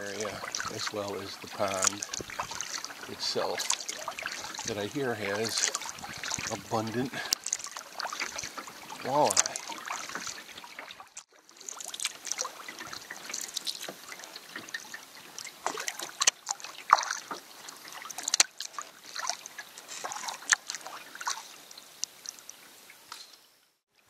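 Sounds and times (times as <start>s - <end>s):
paddle dipping in water: 0.0s - 23.4s
water dripping: 0.0s - 23.4s.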